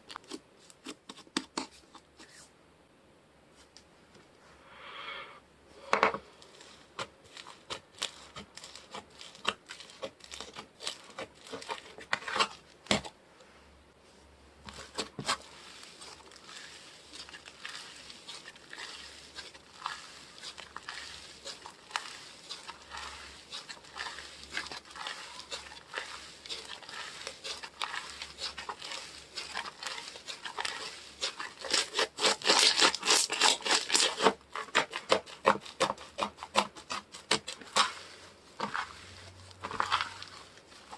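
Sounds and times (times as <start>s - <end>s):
slime squishing with sticky pops: 6.4s - 13.2s, 14.6s - 40.9s.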